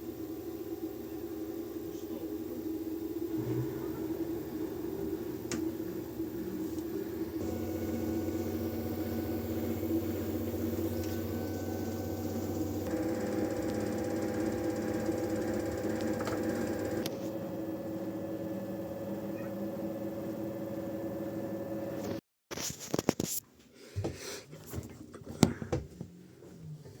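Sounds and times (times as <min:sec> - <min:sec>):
washing machine motor hum: 0:00.0 - 0:22.1.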